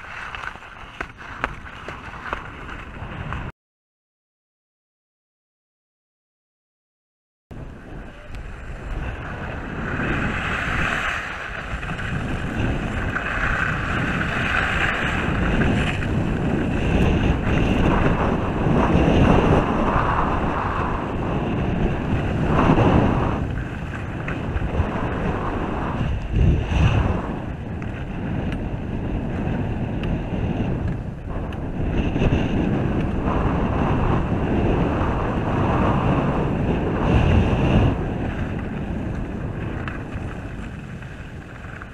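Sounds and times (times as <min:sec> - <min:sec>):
skis scraping on snow: 0:00.0 - 0:03.5, 0:07.6 - 0:41.9
wind on microphone: 0:00.0 - 0:03.5, 0:07.5 - 0:41.9.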